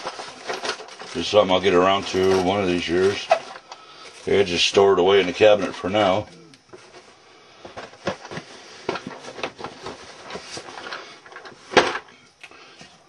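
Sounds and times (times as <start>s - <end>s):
rustling of parts handled: 0.0s - 12.2s.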